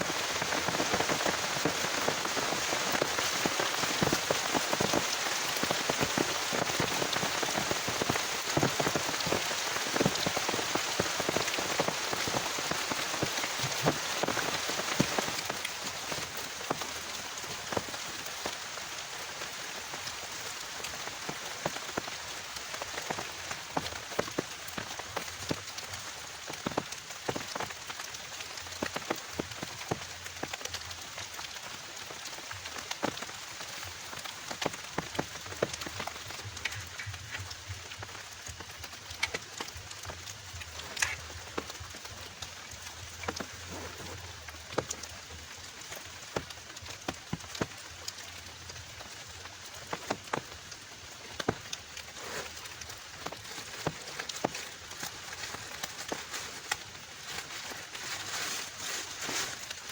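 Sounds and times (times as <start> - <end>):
heavy rain pouring: 0.0 - 59.9
raindrops spattering on a surface: 0.0 - 59.9.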